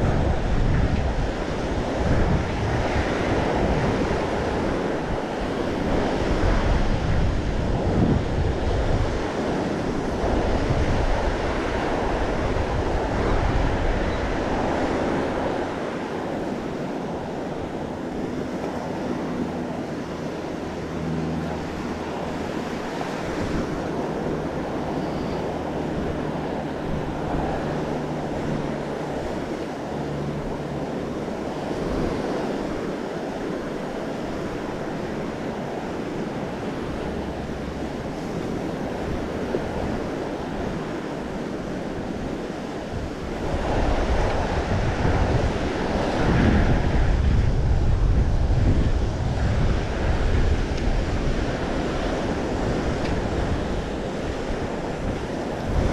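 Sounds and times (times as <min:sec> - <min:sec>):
ocean surf washing onto beach: 0:00.0 - 0:55.9
wind buffeting microphone: 0:00.0 - 0:55.9.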